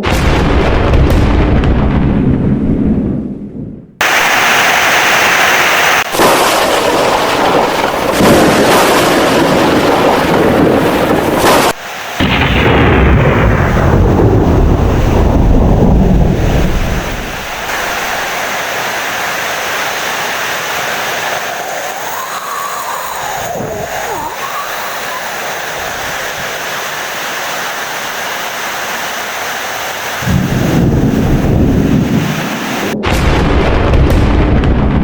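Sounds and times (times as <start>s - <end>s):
thunder rumbling: 0.0s - 27.2s, 30.0s - 35.0s
heavy rain: 4.0s - 33.6s.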